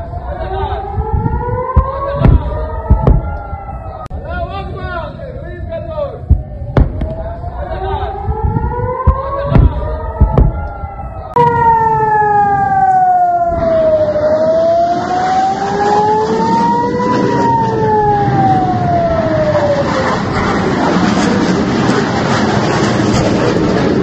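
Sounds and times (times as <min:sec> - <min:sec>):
siren wailing: 0:00.0 - 0:04.4, 0:06.2 - 0:24.0
rushing outdoor noise: 0:00.0 - 0:24.0.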